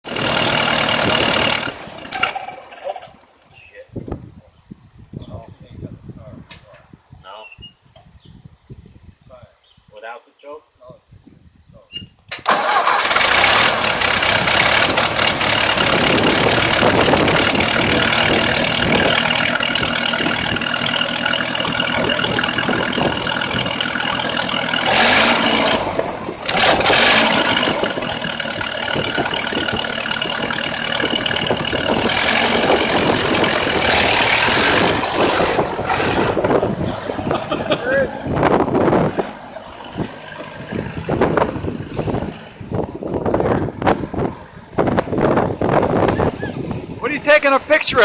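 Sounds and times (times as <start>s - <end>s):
tractor engine running: 0.0s - 3.6s, 12.3s - 48.0s.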